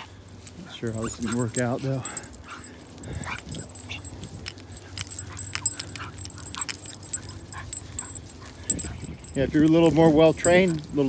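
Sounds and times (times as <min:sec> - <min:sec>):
collar tags jingling: 0:00.0 - 0:11.0
dogs moving about excitedly: 0:00.3 - 0:11.0.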